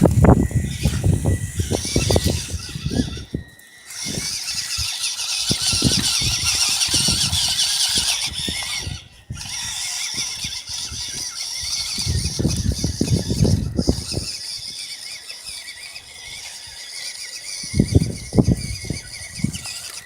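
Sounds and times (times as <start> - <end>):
small electric motor whine: 0.0 - 20.0.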